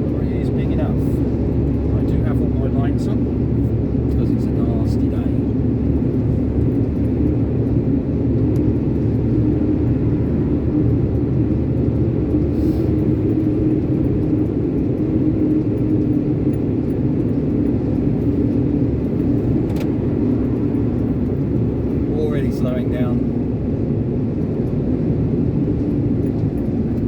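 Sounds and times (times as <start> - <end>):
lorry diesel engine rumble: 0.0 - 27.0
road noise: 0.0 - 27.0.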